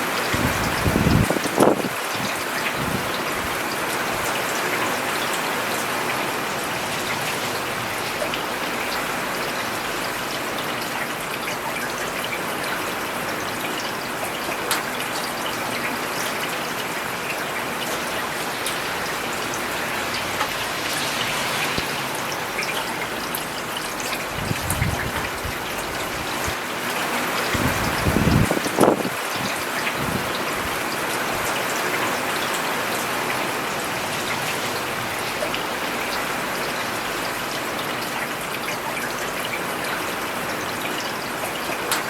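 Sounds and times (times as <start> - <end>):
rain on a paved road: 0.0 - 42.0.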